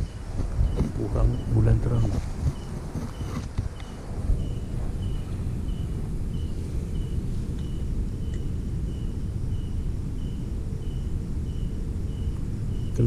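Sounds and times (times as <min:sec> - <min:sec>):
insect chirping: 0:00.0 - 0:13.0
wind noise on microphone: 0:00.0 - 0:13.0.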